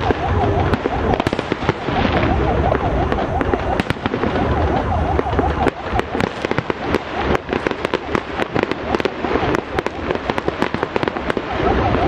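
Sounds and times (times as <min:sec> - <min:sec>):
fireworks cracking and popping: 0:00.0 - 0:12.0
warbling up-and-down tone: 0:00.0 - 0:12.0.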